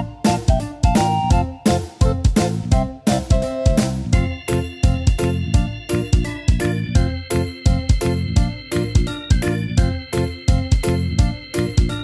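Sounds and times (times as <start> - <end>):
keyboard tune over a beat: 0.0 - 12.0.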